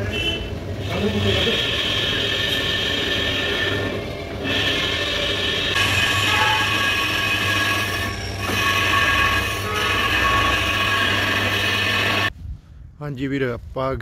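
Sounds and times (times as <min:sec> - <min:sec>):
lathe tool screeching on metal: 0:00.8 - 0:12.3.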